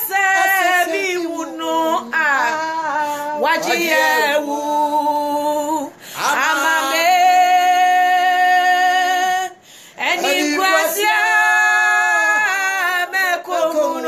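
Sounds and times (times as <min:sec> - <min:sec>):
women singing unaccompanied: 0:00.0 - 0:14.0.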